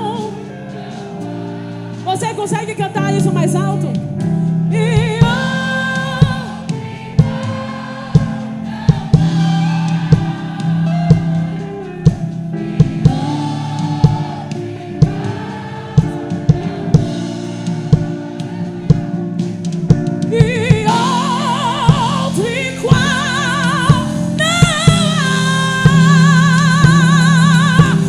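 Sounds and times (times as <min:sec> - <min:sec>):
band accompaniment: 0:00.0 - 0:28.0
group singing gospel chorus: 0:00.0 - 0:28.0
steady drum beat: 0:04.8 - 0:28.0.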